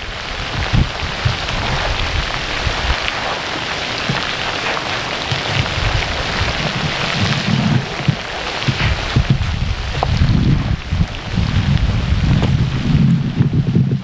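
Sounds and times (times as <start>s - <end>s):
faint crackles: 0.0s - 14.0s
steady rain-like hiss: 0.0s - 14.0s
wind buffeting microphone: 0.0s - 14.0s.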